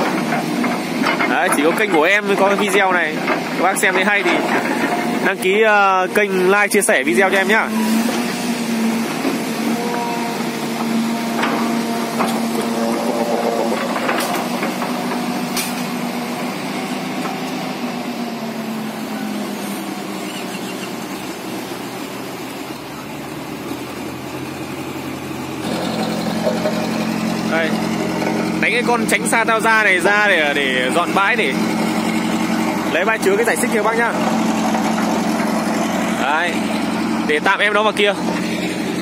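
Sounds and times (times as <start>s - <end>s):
diesel engine running under load: 0.0s - 39.0s.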